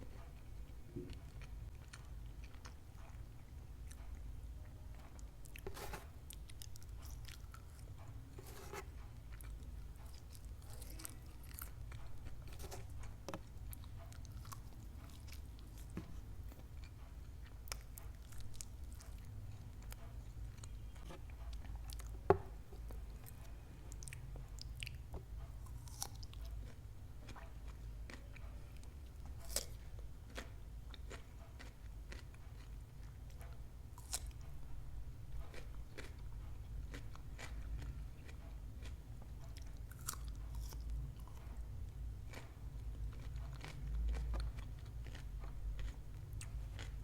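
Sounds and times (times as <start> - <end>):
chewing crunchy food: 0.1 - 34.6, 35.2 - 47.0.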